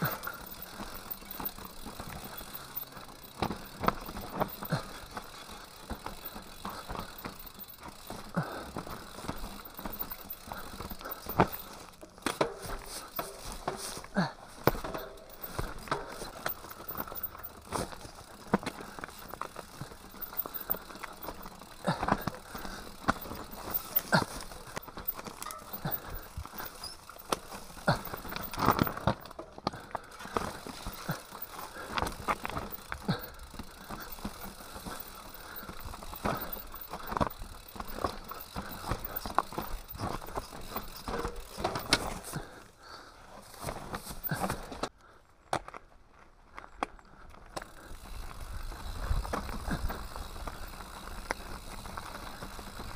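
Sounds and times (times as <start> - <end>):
bike knocking over bumps: 0.0 - 42.5
bike rattling: 0.0 - 44.9, 45.5 - 52.9
bike tyres rolling over stones: 0.0 - 52.9.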